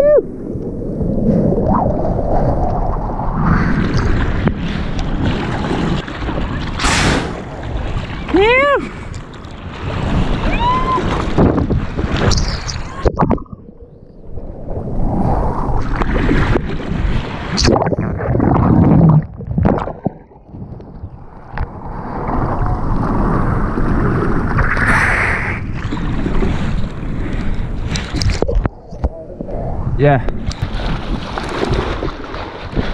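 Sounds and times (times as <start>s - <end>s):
wind noise on microphone: 0.0s - 32.9s
water rushing and splashing: 1.4s - 32.9s.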